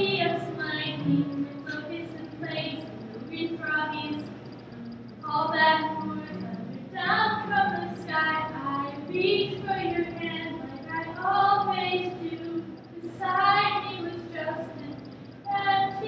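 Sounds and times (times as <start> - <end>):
women singing unaccompanied: 0.0 - 4.4, 5.2 - 16.0.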